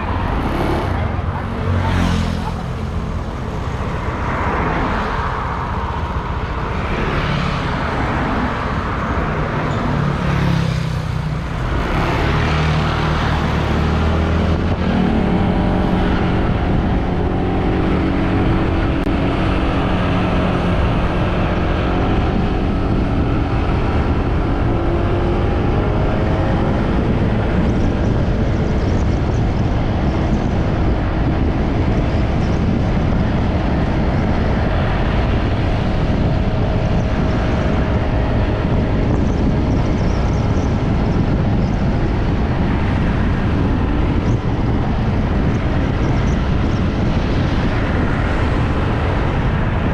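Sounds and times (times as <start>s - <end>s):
wind rush over microphone: 0.0s - 49.9s.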